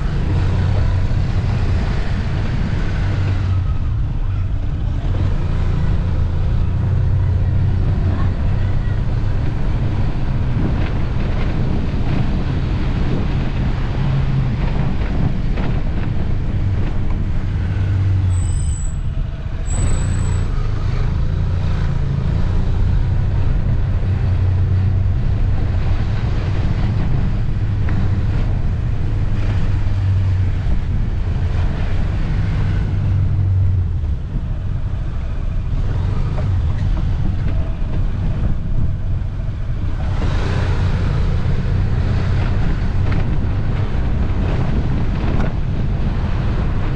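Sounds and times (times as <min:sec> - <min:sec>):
road and wind noise: 0:00.0 - 0:46.9.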